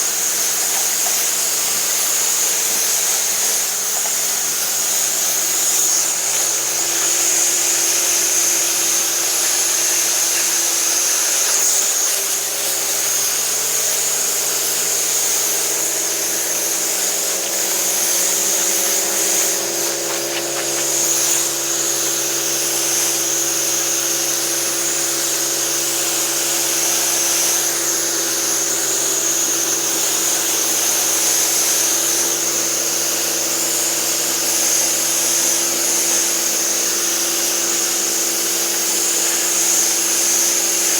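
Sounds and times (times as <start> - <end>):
water spraying hiss: 0.0 - 40.9.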